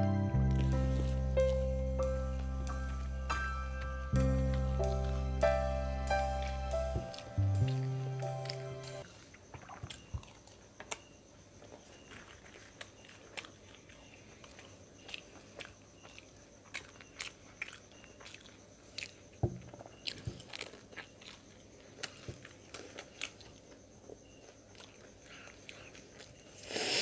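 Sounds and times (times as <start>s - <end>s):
crisp crunches and chewing: 0.5s - 5.2s, 6.4s - 27.0s.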